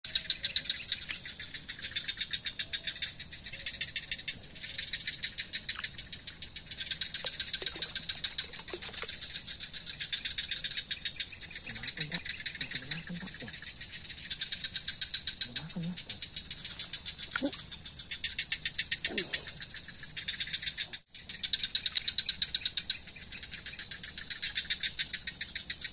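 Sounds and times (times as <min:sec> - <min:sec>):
night insects chirping: 0:00.0 - 0:25.9.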